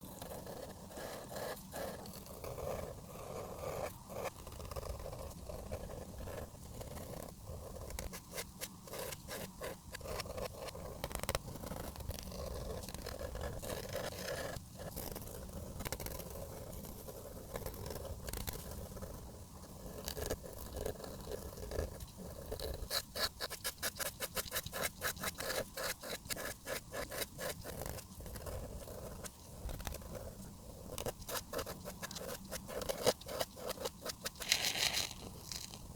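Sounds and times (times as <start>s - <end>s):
marker scraping on paper: 0.0s - 19.2s, 19.8s - 35.9s.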